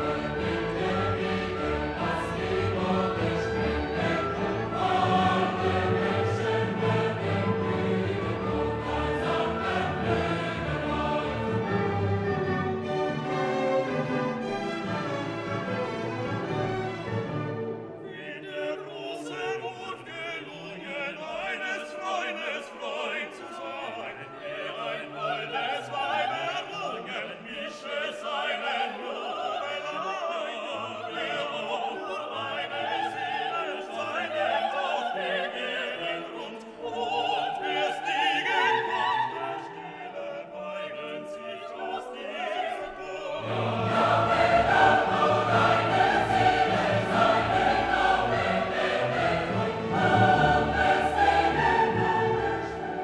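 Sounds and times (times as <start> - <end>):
choir: 0.0 - 53.0
operatic singing: 0.0 - 53.0
orchestra: 0.0 - 53.0.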